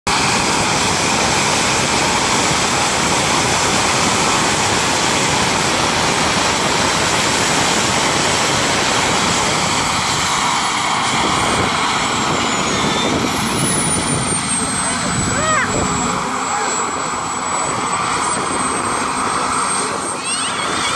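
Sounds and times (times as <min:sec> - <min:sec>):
jet turbine engine roar and whine: 0:00.1 - 0:20.9.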